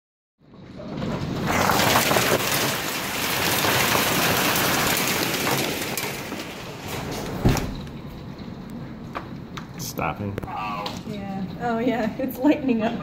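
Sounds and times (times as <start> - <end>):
hail clattering: 0.4 - 12.9.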